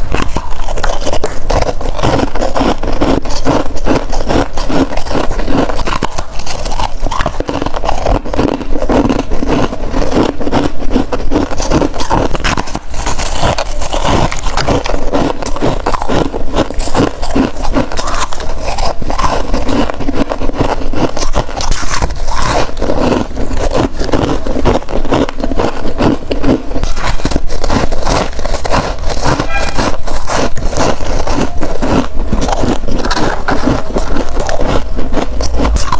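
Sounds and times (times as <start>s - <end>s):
chewing crunchy frost: 0.0s - 35.9s.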